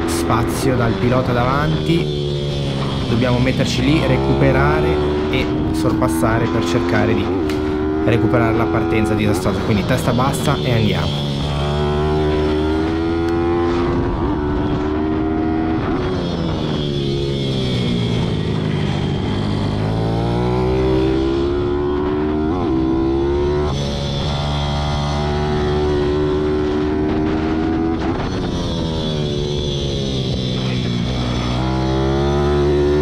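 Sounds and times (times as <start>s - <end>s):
motorbike engine at high revs: 0.0s - 33.0s.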